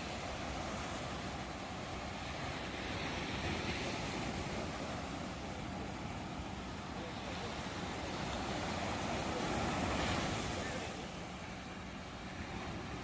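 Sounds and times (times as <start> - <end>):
waves breaking: 0.0 - 13.0.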